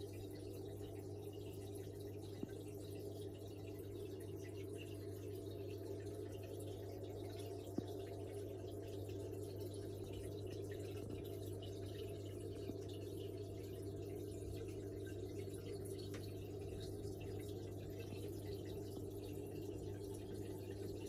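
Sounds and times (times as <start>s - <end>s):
aquarium filter hum: 0.0s - 21.0s
faint bubbling water: 0.0s - 21.0s.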